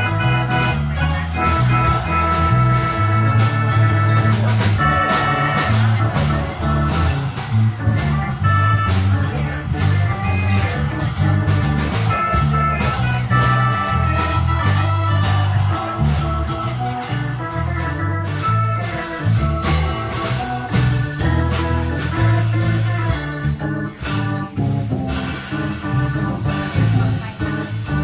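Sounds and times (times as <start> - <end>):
drums and cymbals: 0.0 - 24.5, 25.1 - 28.0
bass line: 0.0 - 28.0
organ chords: 0.0 - 28.0.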